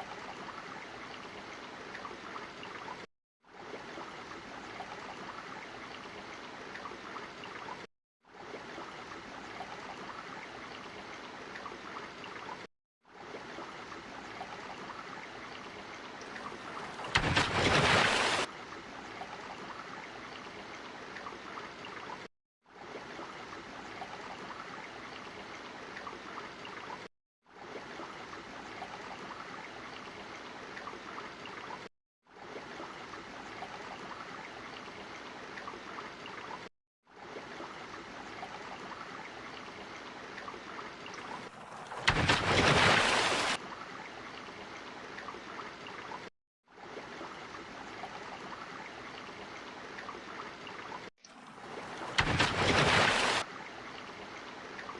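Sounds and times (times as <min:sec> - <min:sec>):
flowing water rushing: 0:00.0 - 0:54.9.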